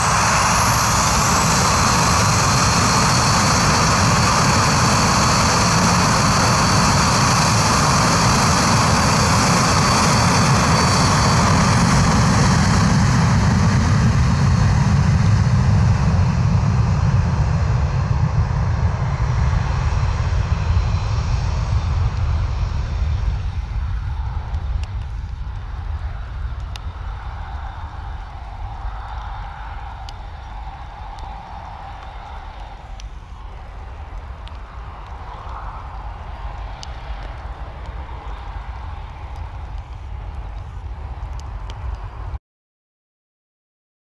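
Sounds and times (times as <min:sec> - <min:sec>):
high fan whine: 0:00.0 - 0:42.4
jet engine roar: 0:00.0 - 0:42.4
low rumble: 0:00.0 - 0:42.4.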